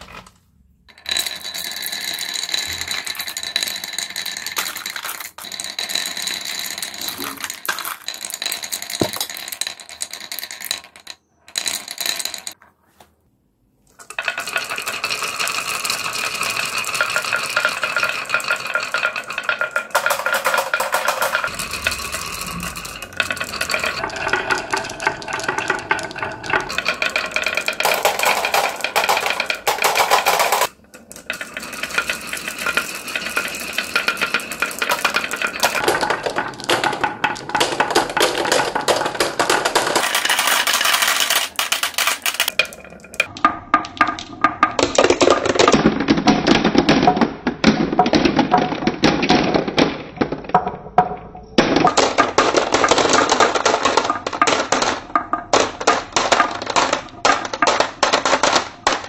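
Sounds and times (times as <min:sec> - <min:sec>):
marbles clattering on wooden track: 0:00.0 - 0:12.6, 0:13.9 - 0:59.0.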